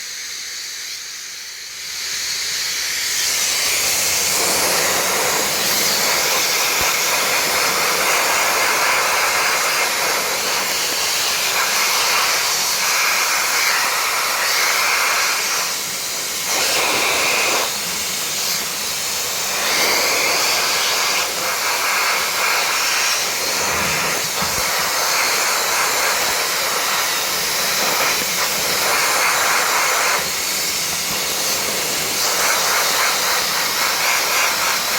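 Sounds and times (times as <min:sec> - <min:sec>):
sandblaster hissing: 0:00.0 - 0:34.9.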